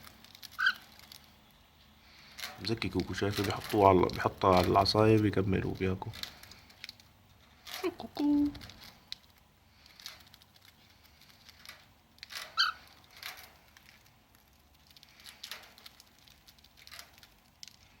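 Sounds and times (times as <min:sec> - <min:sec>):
bird crunching a biscuit: 0:00.0 - 0:07.9, 0:08.5 - 0:18.0.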